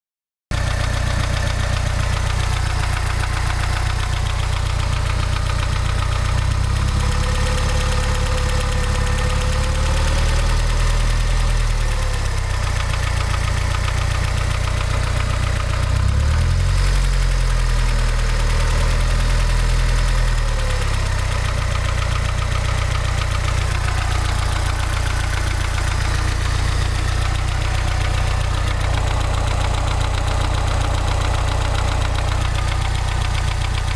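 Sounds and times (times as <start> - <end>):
car engine knocking: 0.5 - 33.9.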